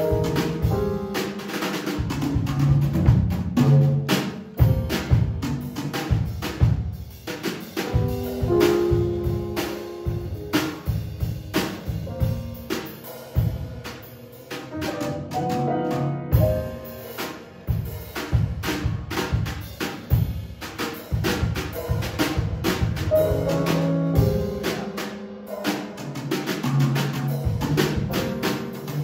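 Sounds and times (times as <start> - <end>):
busy drum hits: 0.0 - 29.0
jazz combo playing: 0.0 - 29.0.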